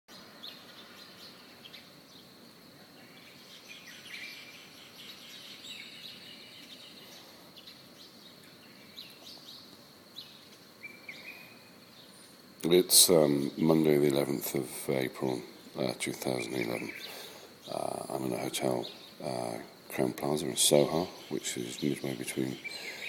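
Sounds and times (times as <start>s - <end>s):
soft steady hiss: 0.1s - 23.0s
birds chirping and calling: 0.4s - 12.4s, 13.3s - 23.0s
thin steady high tone: 0.6s - 23.0s.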